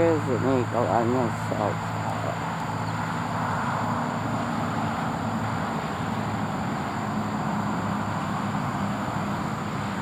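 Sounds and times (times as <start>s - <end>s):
continuous hiss: 0.0s - 10.0s
vehicle engine humming: 0.0s - 10.0s.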